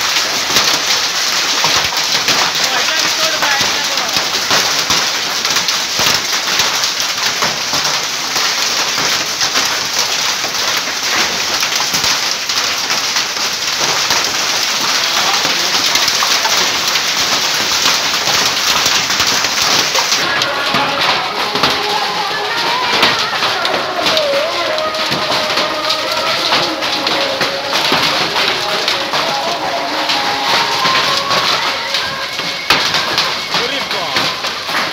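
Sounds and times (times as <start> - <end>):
hail and heavy rain pelting: 0.0 - 34.9.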